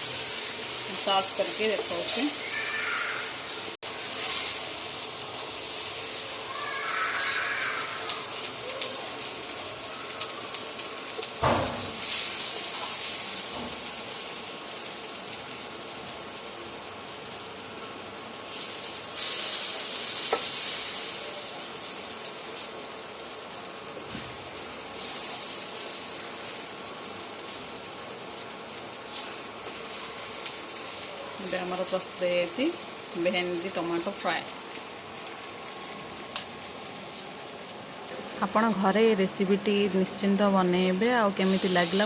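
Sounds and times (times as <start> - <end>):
vegetables sizzling in a pan: 0.0 - 42.0.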